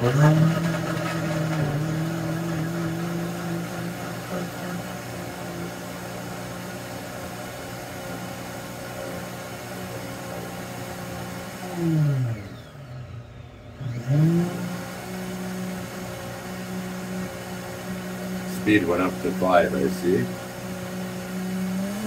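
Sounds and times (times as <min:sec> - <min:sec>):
blender motor running: 0:00.0 - 0:22.0.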